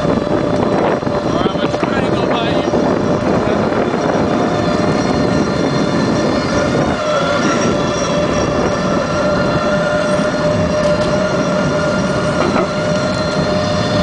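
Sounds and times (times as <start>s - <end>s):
mini bike engine whine: 0.0s - 14.0s
steady rush of noise: 0.0s - 14.0s.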